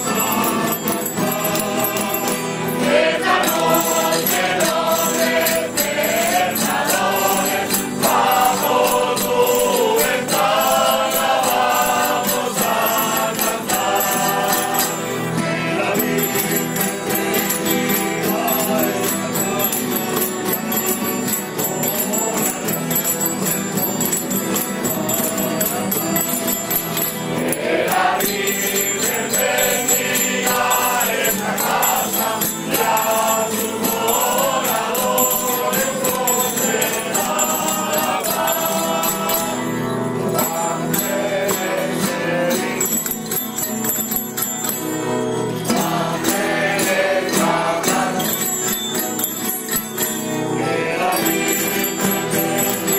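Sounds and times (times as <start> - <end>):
group singing: 0.0 - 44.2, 45.6 - 52.9
accordion: 0.0 - 52.9
guitars and plucked strings: 0.0 - 52.9.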